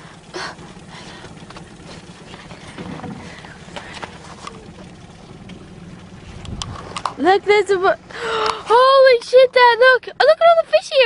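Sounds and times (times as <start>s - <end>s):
water around a boat: 0.0s - 11.0s.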